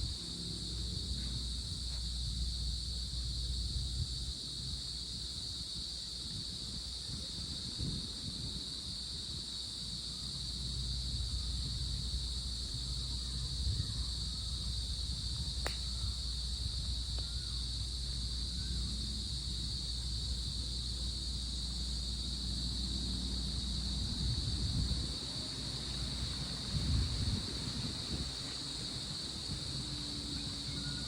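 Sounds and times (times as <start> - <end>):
crickets chirring: 0.0 - 31.0
wind rumble on microphone: 0.0 - 31.0.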